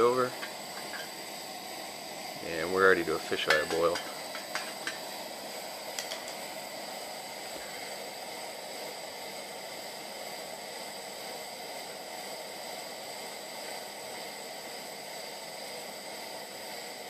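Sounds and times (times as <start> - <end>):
camping stove hissing: 0.0 - 17.0
water in pot boiling: 0.0 - 17.0.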